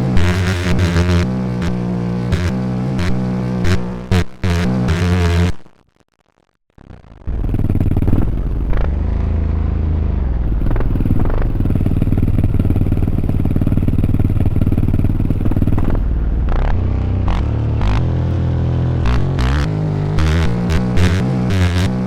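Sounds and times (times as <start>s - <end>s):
dirt bike engines running: 0.0s - 5.5s, 7.2s - 22.0s.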